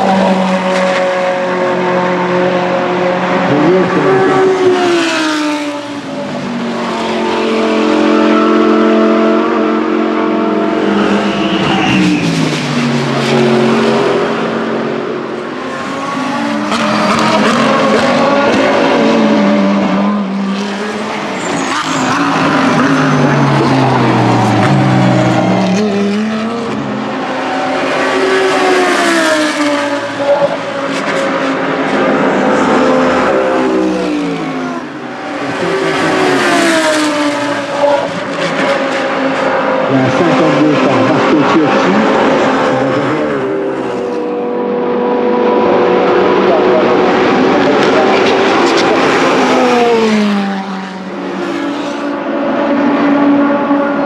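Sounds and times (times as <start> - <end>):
race cars passing: 0.0 - 54.0.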